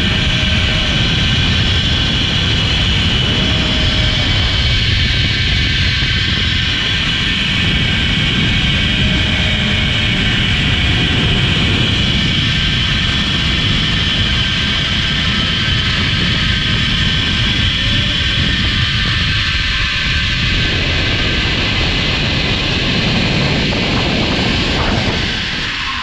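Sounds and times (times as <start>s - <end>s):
pulleys whirring on cable: 0.0s - 26.0s
wind buffeting microphone: 0.0s - 26.0s.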